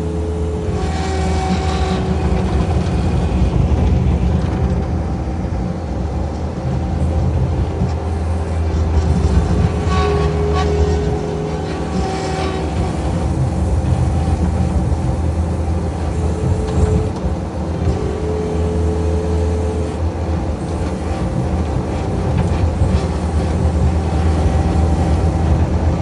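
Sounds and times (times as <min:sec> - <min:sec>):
large engine drone: 0:00.0 - 0:26.0.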